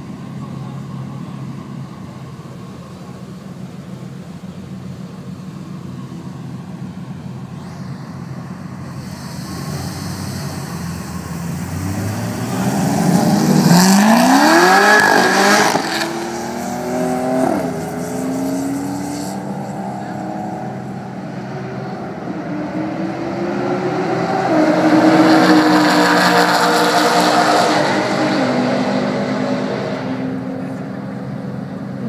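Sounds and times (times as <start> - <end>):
sports car engines idling: 0.0 - 24.3, 28.2 - 32.0
sports car engines revving: 0.0 - 32.0.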